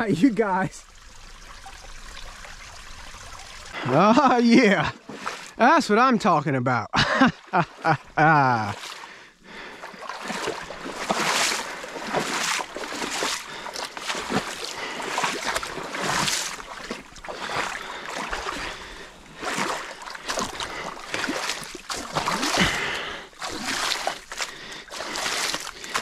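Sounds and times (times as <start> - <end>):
creek water splashing: 0.0 - 6.4, 7.0 - 26.0.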